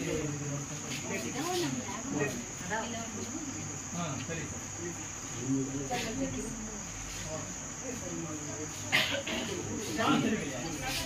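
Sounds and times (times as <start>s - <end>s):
faint indistinct voices: 0.0s - 11.0s.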